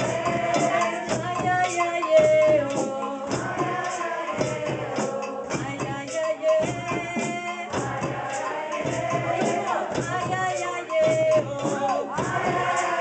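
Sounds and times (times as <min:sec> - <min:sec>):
light percussion beat: 0:00.0 - 0:13.0
woman singing into a microphone: 0:00.0 - 0:13.0.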